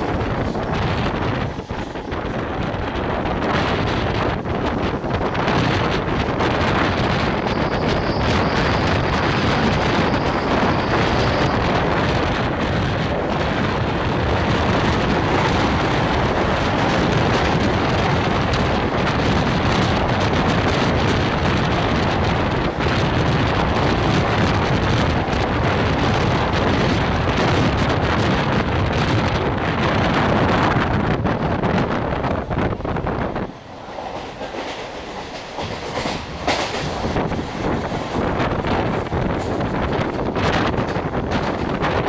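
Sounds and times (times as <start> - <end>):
electric train running on track: 0.0 - 42.0
wind on microphone: 0.0 - 42.0.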